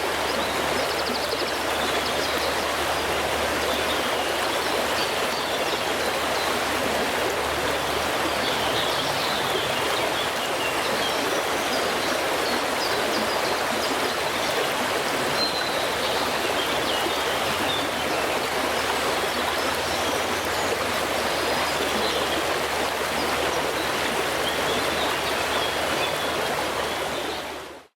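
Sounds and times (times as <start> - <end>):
stream babbling: 0.0 - 27.9.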